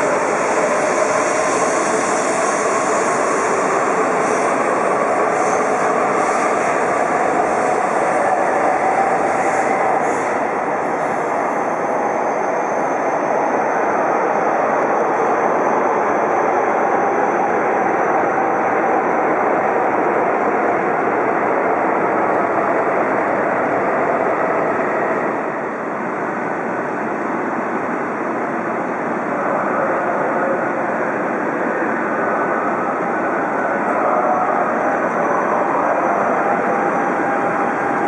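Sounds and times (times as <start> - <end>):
train rushing along tracks: 0.0 - 38.0.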